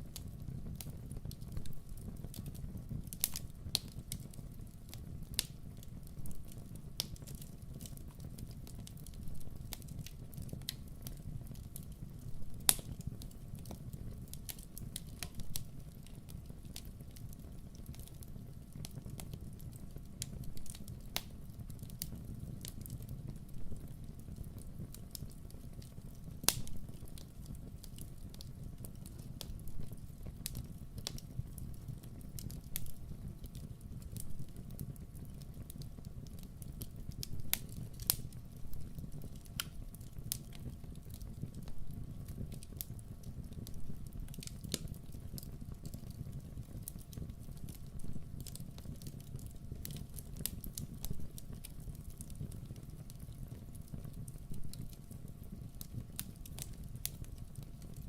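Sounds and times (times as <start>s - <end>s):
low fire rumble: 0.0s - 58.0s
sharp snaps of fire: 0.0s - 58.0s
wood crackling in fire: 0.0s - 58.0s.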